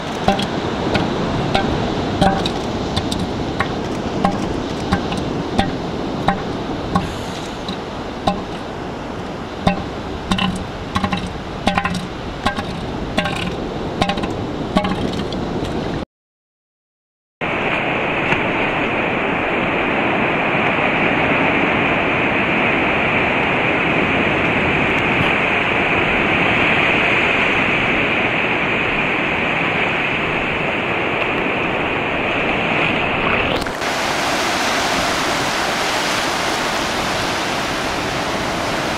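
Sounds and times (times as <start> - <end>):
ocean surf breaking: 0.0 - 16.0, 17.4 - 38.9.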